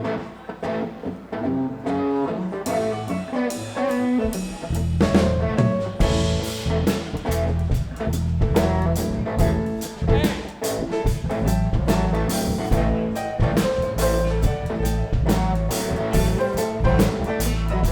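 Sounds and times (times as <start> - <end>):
live band playing: 0.0 - 17.9.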